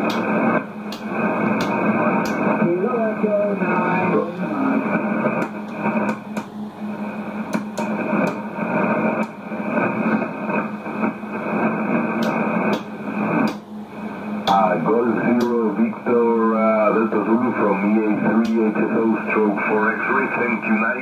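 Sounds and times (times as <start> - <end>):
radio band noise hiss: 0.0 - 21.0
static crackles: 0.0 - 21.0.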